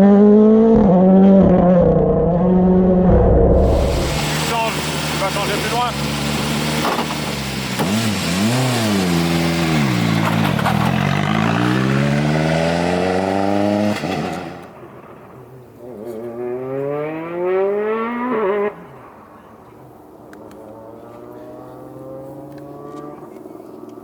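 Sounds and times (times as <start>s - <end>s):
rally car engine accelerating: 0.0s - 15.1s, 15.8s - 24.0s.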